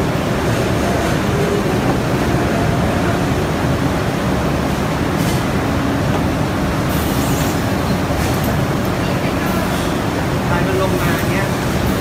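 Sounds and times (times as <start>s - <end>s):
machinery rumbling and hissing: 0.0s - 12.0s.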